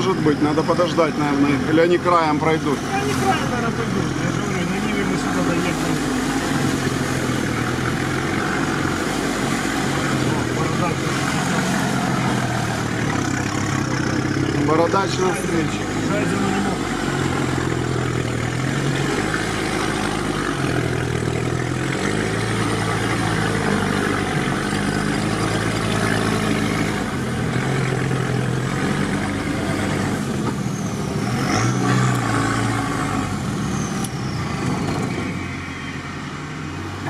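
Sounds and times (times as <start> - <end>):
vehicle engine at low speed: 0.0 - 37.0.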